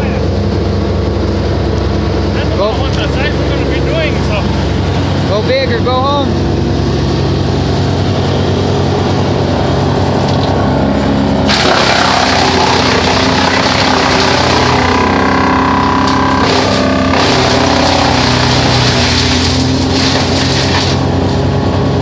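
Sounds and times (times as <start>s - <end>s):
wood chipper chipping log: 0.0s - 22.0s
wood chipper engine running: 0.0s - 22.0s.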